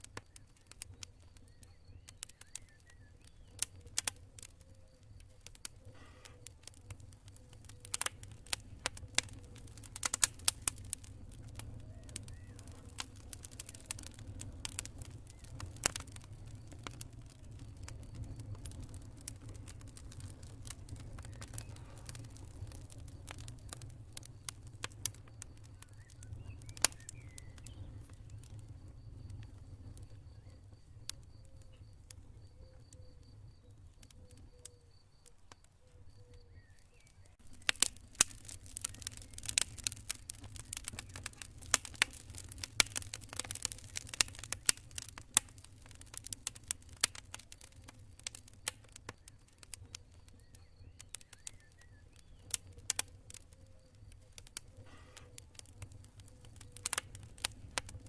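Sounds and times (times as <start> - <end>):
campfire crackling and popping: 0.0 - 58.0
cricket trill: 0.0 - 58.0
low rumble of fire: 0.0 - 58.0.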